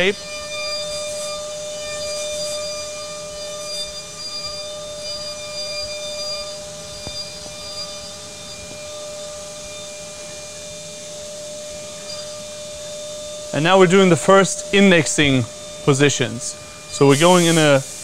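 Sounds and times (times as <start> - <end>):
milling machine spindle whine: 0.0 - 18.0.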